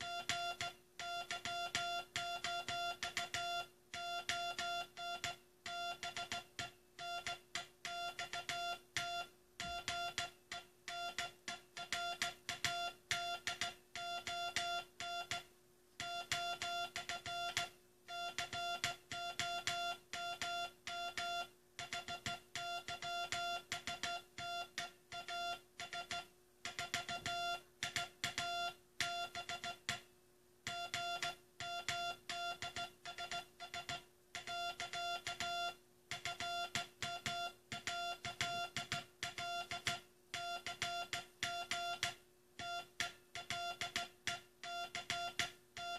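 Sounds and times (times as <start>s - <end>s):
morse code beeps: 0.0s - 30.0s, 30.7s - 45.9s
faint steady hum: 0.0s - 45.9s.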